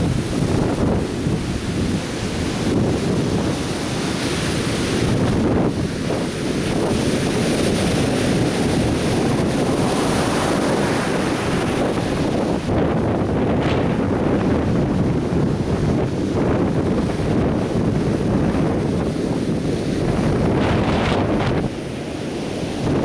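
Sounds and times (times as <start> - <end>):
surf breaking ashore: 0.0 - 23.0
wind buffeting microphone: 0.0 - 23.0.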